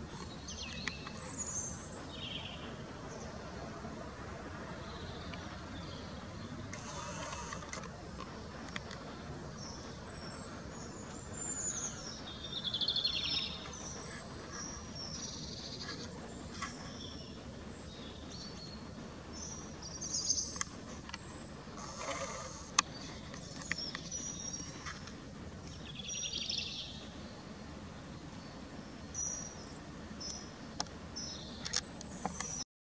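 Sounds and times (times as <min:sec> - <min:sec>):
steady background noise: 0:00.0 - 0:32.6.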